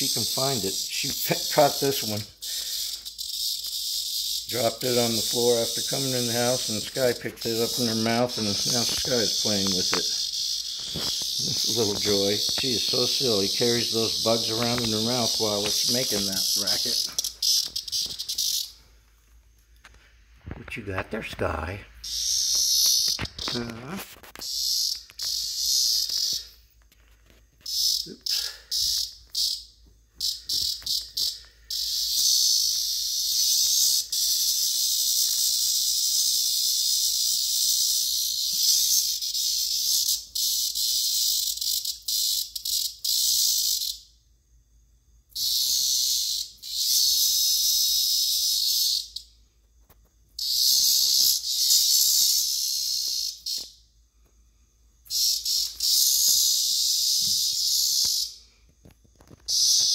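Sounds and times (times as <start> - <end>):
cicada buzzing: 0.0 - 18.9, 20.7 - 44.3, 45.1 - 54.0, 54.7 - 59.9.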